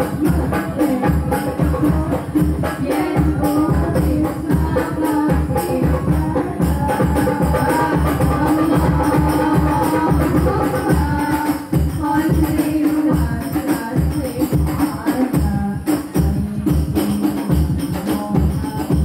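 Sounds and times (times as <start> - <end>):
frame drums beating: 0.0 - 19.0
women singing through microphones: 0.0 - 19.0.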